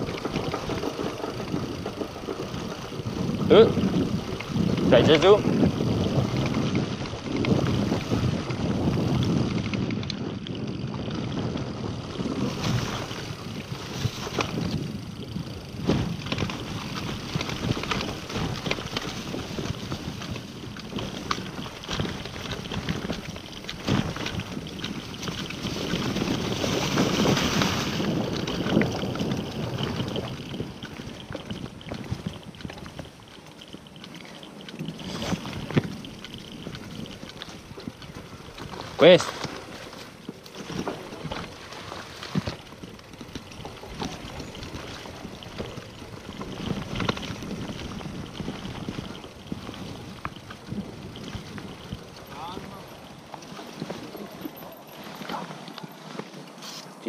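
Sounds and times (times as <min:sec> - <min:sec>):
bike knocks and rattles: 0:00.0 - 0:56.5
bike tyres rolling over dirt: 0:00.0 - 0:57.0
wind buffeting microphone: 0:00.0 - 0:57.0.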